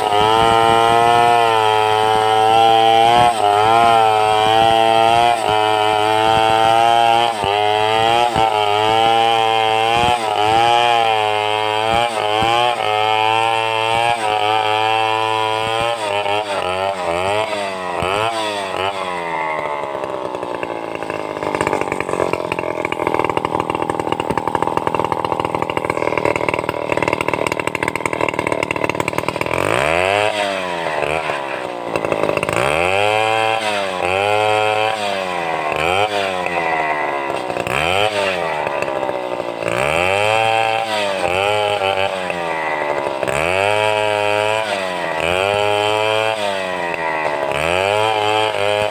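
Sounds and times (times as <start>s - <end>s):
chainsaw cutting log: 0.0s - 48.9s.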